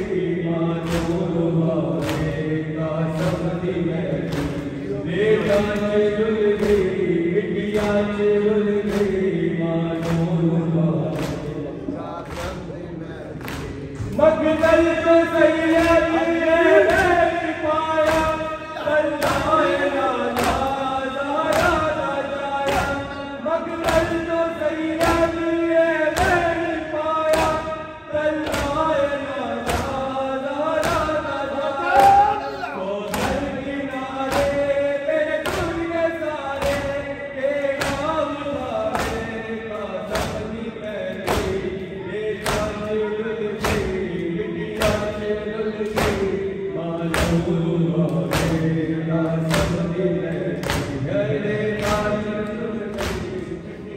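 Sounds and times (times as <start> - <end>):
men chanting in unison: 0.0 - 53.9.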